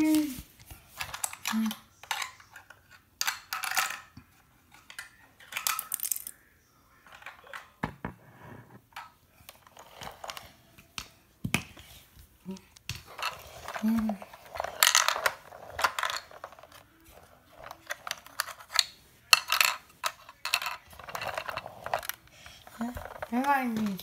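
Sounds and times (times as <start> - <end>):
plastic toys clattering on tile floor: 0.9 - 6.4, 7.0 - 8.1, 8.9 - 12.0, 12.9 - 24.0.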